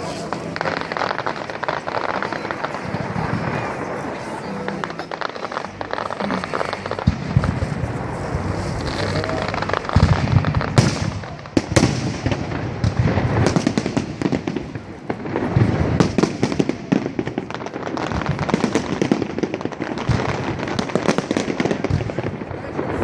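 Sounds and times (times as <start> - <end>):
fireworks bangs and booms: 0.0 - 23.0
fireworks crackling: 0.0 - 23.0.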